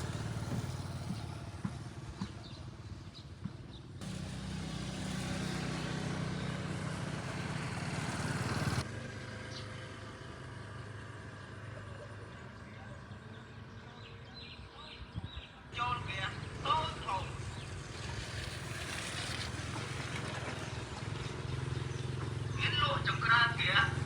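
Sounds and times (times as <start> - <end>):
motorbike engine humming: 0.0 - 14.4, 15.7 - 24.0.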